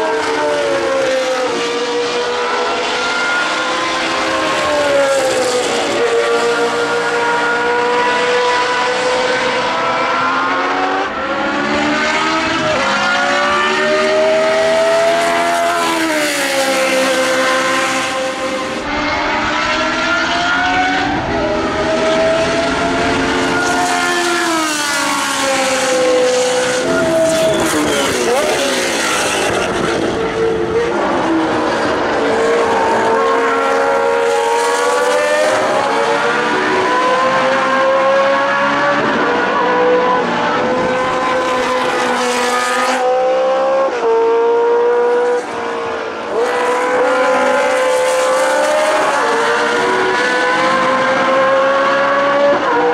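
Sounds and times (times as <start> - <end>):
racing car engines revving: 0.0 - 52.9.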